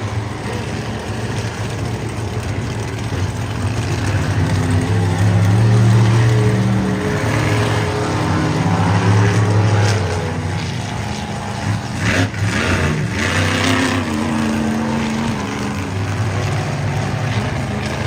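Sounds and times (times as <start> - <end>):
truck engines revving loudly: 0.0 - 18.0.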